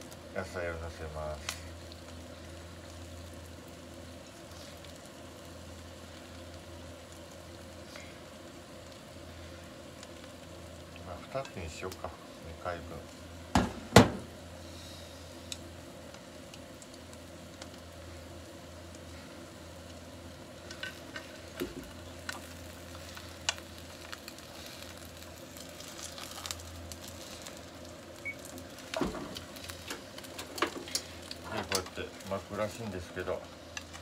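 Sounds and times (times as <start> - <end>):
food sizzling in frying pan: 0.0 - 34.0.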